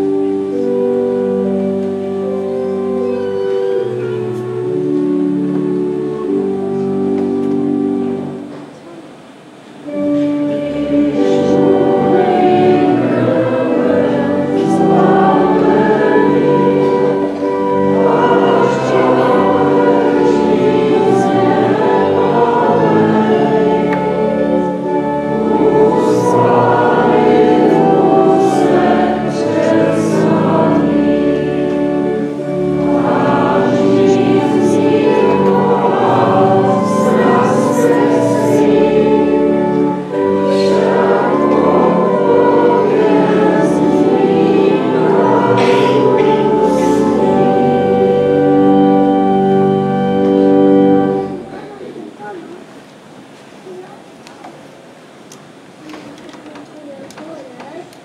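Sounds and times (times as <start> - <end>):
choir singing a hymn: 0.0 - 8.6, 9.8 - 52.8.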